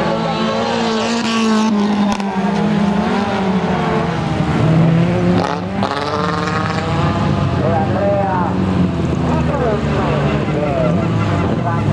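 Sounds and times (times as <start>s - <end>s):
race car engine running hard: 0.0s - 11.9s.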